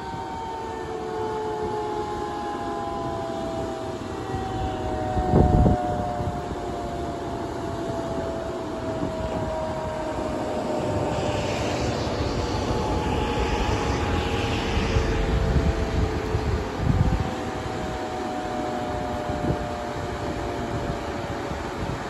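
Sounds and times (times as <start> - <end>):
siren wailing: 0.0 - 21.9.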